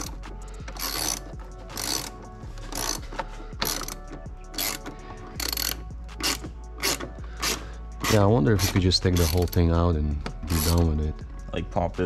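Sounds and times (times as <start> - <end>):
ratchet wrench clicking: 0.0 - 9.7.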